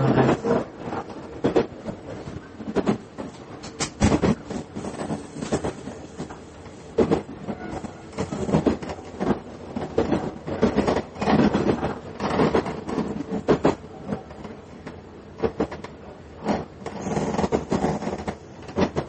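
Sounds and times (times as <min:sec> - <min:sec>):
railcar steady rumble: 0:00.0 - 0:19.0.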